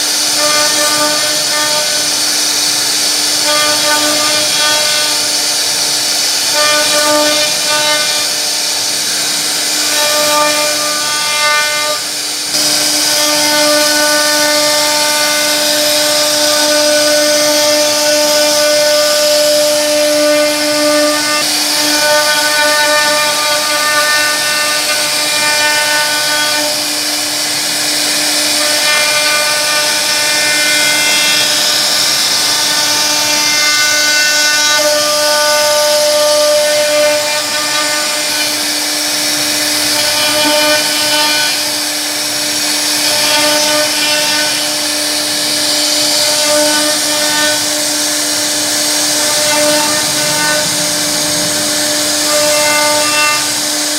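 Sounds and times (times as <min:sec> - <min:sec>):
router spindle high whine: 0:00.0 - 0:53.9.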